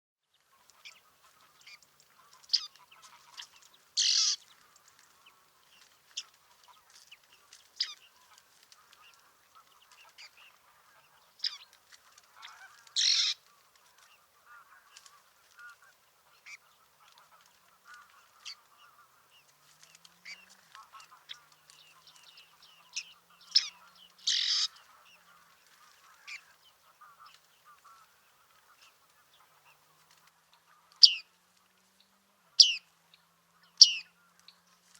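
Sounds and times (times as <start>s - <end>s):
birds calling: 0.4s - 31.3s, 33.6s - 34.6s.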